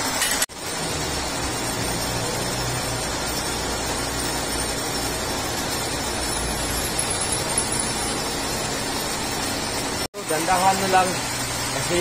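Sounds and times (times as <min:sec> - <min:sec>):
milling machine running: 0:00.5 - 0:12.0.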